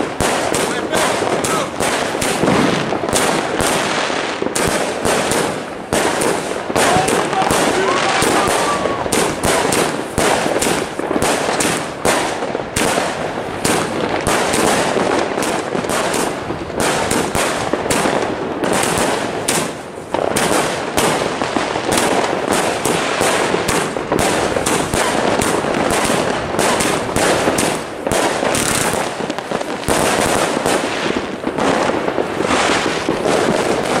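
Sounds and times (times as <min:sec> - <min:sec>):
fireworks cake firing shots: 0:00.0 - 0:34.0.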